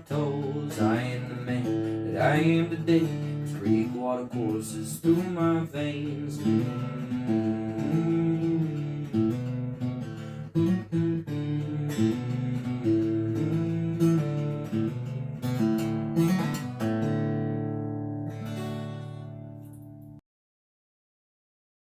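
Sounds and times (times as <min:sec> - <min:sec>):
acoustic guitar strumming: 0:00.0 - 0:20.2.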